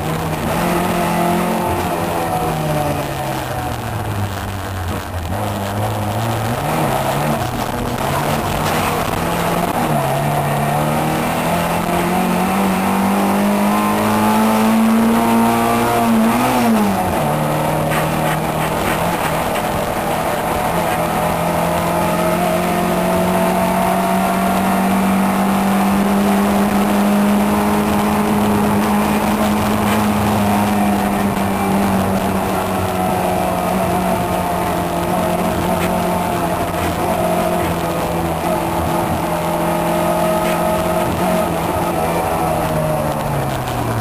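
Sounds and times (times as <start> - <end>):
car engine at high revs: 0.0 - 44.0.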